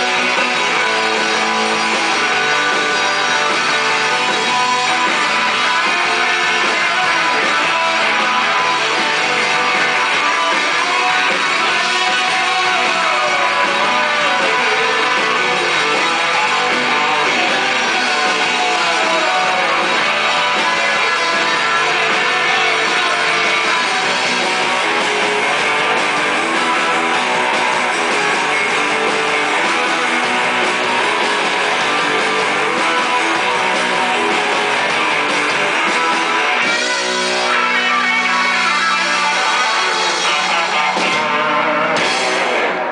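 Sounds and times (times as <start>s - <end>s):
bass guitar: 0.0s - 42.9s
drums: 0.0s - 42.9s
electric guitars: 0.0s - 42.9s.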